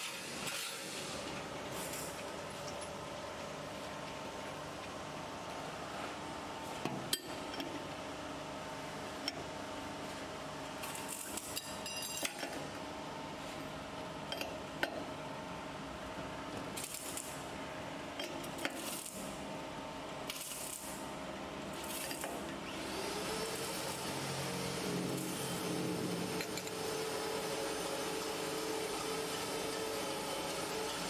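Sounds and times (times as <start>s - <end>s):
steady machine hum: 0.0s - 18.2s, 18.8s - 31.0s.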